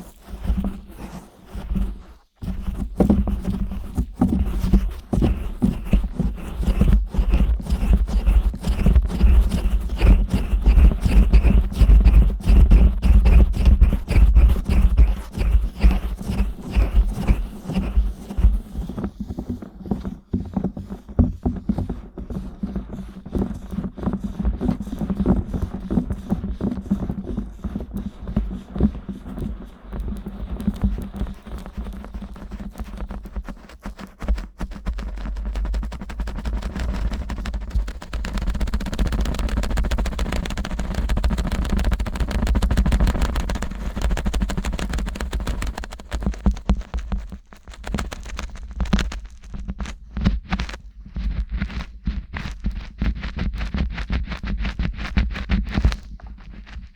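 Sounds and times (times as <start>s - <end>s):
fingers scratching microphone: 0.0s - 56.9s.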